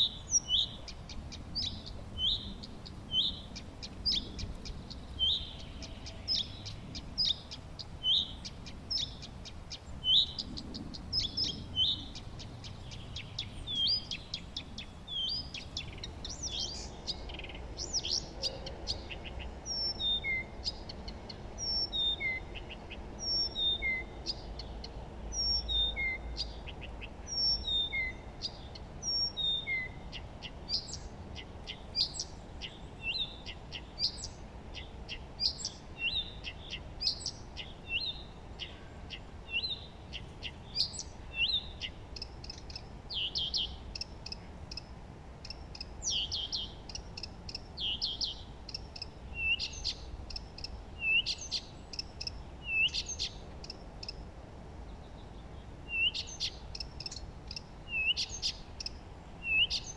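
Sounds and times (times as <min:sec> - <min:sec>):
faint steady hiss: 0:00.0 - 0:59.9
songbirds chirping: 0:00.0 - 0:59.9.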